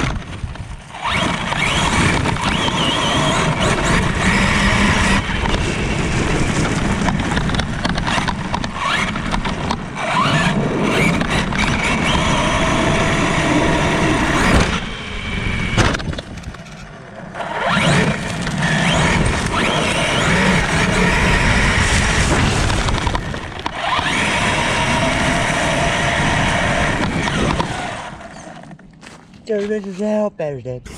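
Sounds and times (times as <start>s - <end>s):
rc truck motor whine: 0.0s - 28.8s.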